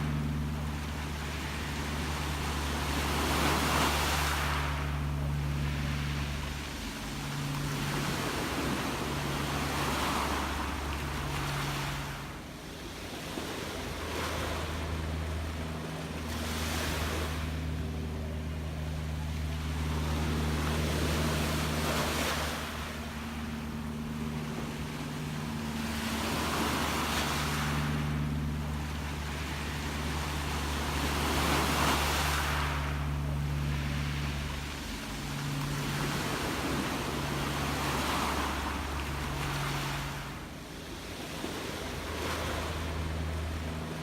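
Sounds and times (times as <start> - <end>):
sea waves breaking: 0.0 - 44.0
steady low hum: 0.0 - 44.0.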